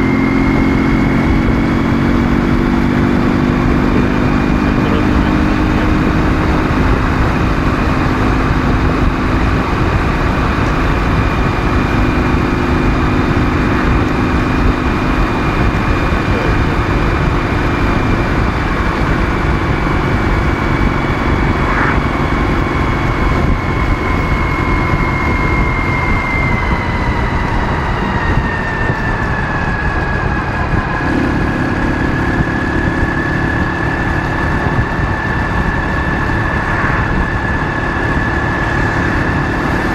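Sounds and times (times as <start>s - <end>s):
high whine: 0.0s - 39.9s
motorcycle engine running: 0.0s - 39.9s
wind and road noise: 0.0s - 39.9s.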